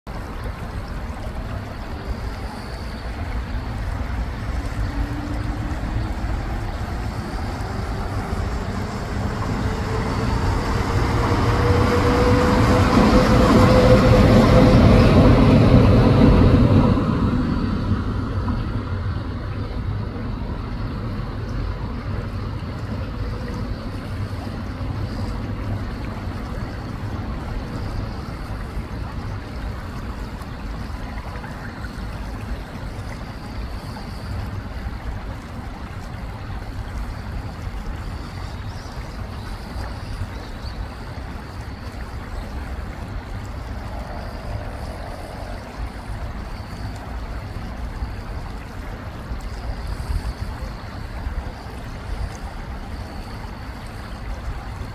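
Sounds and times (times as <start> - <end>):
shallow river over stones: 0.0 - 54.9.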